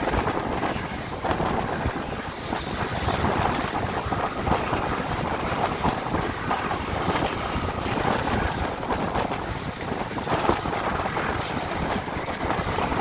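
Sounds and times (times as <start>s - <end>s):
train running on track: 0.0s - 13.0s
wind rushing over microphone: 0.0s - 13.0s.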